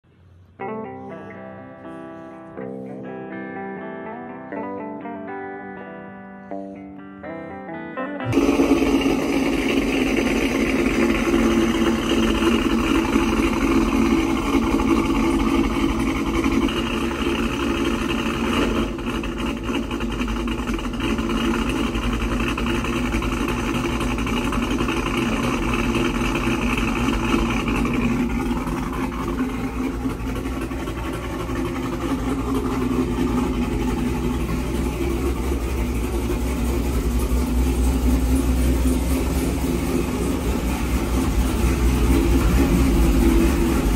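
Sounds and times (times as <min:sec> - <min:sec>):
pickup truck engine idling: 0:08.3 - 0:43.9.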